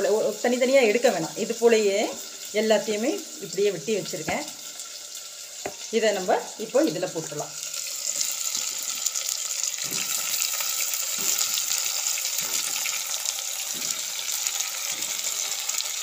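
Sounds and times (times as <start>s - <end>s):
oil sizzling in pot: 0.0s - 16.0s.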